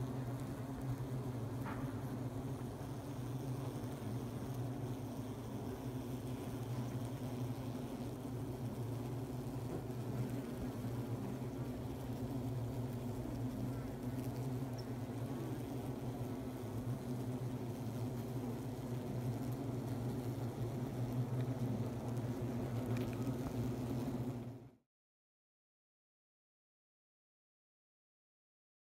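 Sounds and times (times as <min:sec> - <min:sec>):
honeybees buzzing in hive: 0:00.0 - 0:24.7.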